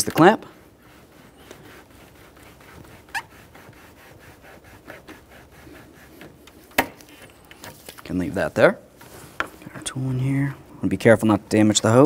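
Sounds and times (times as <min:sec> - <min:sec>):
metal scraping on rubber hose: 0:00.0 - 0:10.0.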